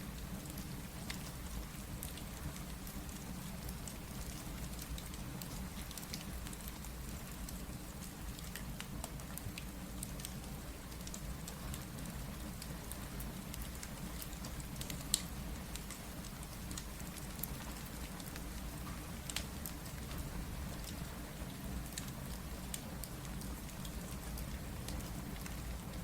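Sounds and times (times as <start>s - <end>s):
steady rain: 0.0s - 26.0s
fireplace crackling and popping: 0.1s - 26.0s.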